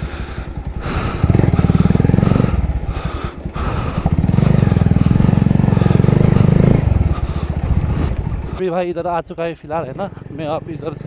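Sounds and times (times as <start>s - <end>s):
motorcycle engine revving: 0.0s - 8.6s, 9.7s - 11.0s.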